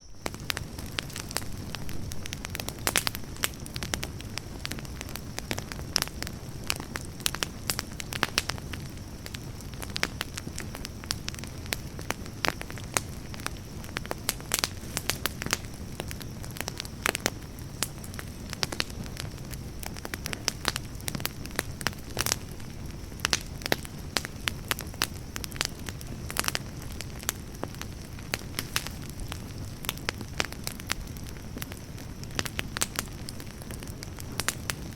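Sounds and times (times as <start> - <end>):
low rumble of flame: 0.0 - 34.9
campfire crackling and popping: 0.1 - 34.9.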